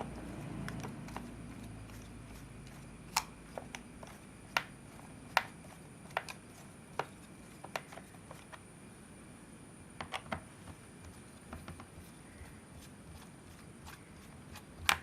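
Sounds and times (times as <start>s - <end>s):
faint high whine: 0.0s - 14.9s.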